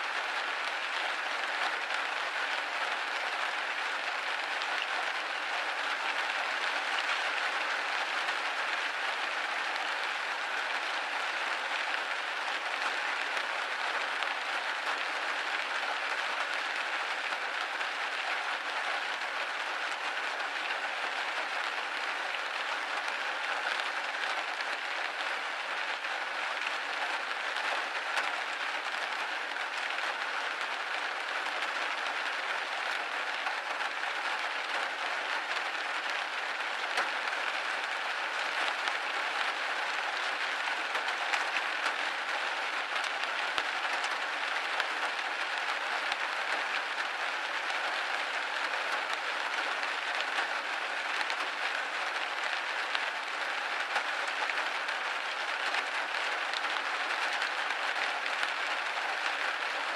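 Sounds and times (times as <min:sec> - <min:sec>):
rain pattering on a window pane: 0:00.0 - 0:59.9.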